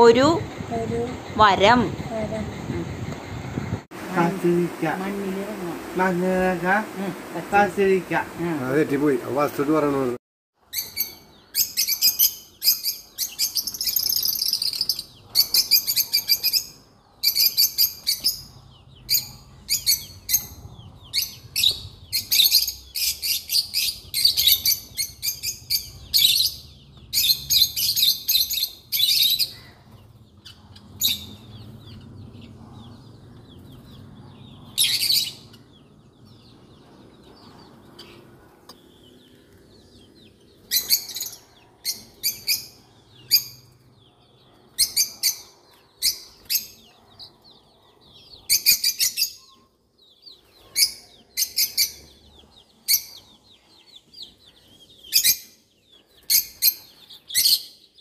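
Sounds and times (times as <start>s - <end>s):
small birds chirping and twittering: 0.0s - 58.0s.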